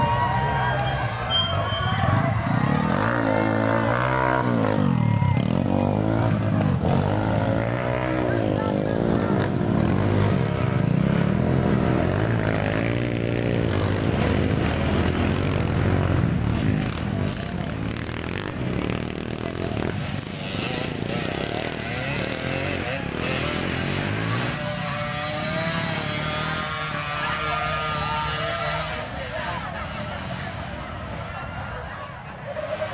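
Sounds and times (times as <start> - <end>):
motorcycle engine running: 1.9 - 31.2.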